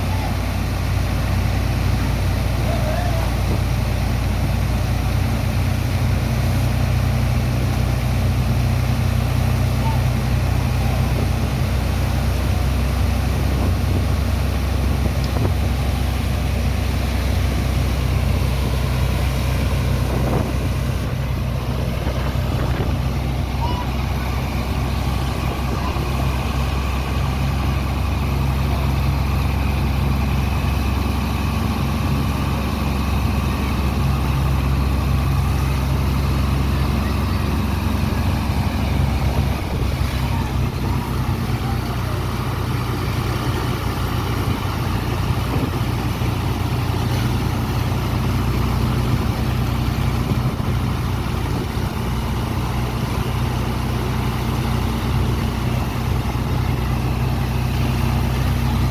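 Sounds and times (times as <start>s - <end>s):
large diesel engine droning: 0.0s - 58.9s.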